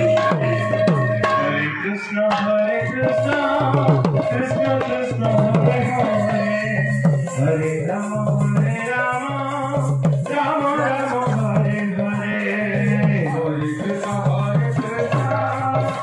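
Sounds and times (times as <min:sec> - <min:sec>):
held melodic tones: 0:00.0 - 0:16.0.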